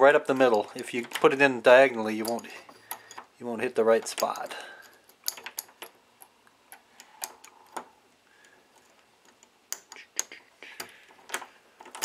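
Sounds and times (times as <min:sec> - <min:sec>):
screwdriver clicking and scraping in metal: 0:00.2 - 0:12.0.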